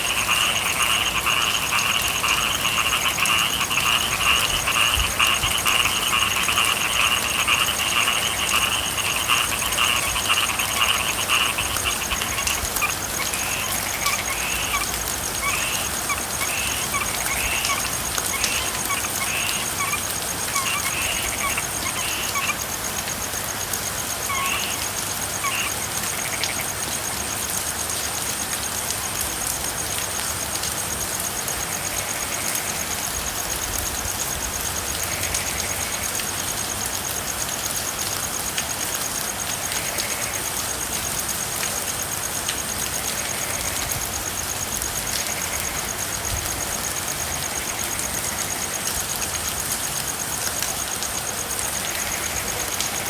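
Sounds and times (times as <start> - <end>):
frogs calling: 0.0 - 53.0
rain falling: 0.0 - 53.0.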